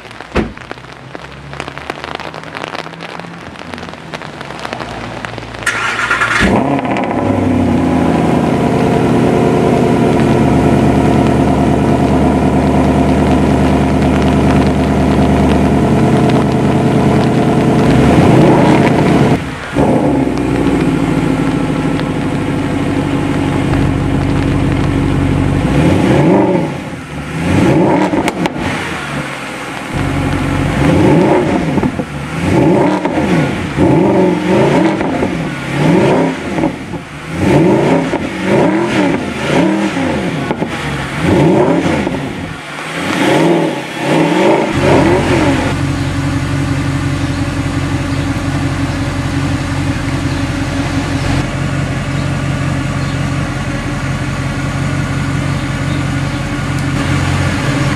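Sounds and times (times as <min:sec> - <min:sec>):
car engine idling: 0:00.0 - 0:57.9
car engine revving: 0:00.0 - 0:57.9.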